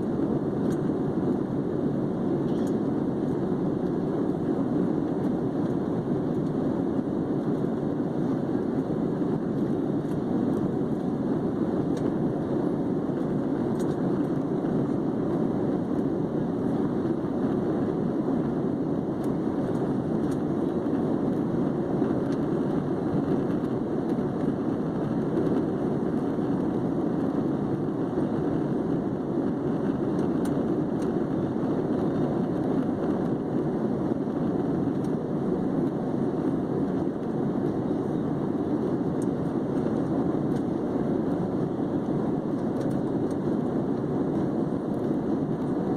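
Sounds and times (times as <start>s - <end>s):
airliner cabin jet engine rush: 0.0s - 45.9s.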